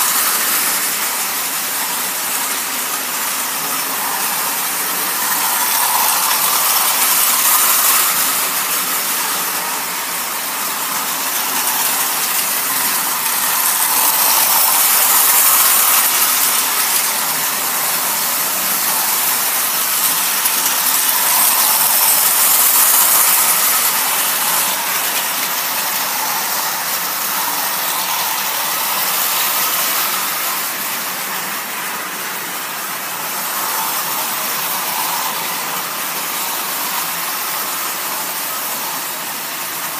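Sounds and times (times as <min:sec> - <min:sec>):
toy train motors whirring: 0:00.0 - 0:39.9.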